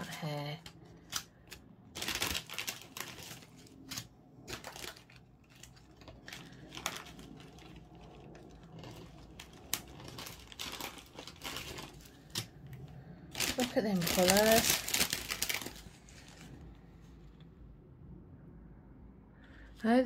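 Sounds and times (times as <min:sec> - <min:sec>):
plastic bags crinkling: 0:00.0 - 0:16.6.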